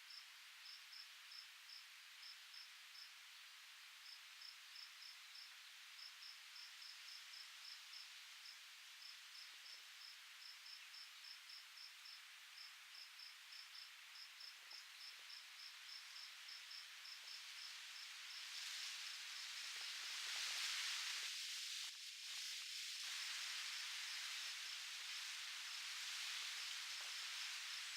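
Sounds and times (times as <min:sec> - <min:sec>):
wind hiss: 0:00.0 - 0:27.9
cricket chirping: 0:00.1 - 0:03.2, 0:04.0 - 0:21.2, 0:23.1 - 0:27.9.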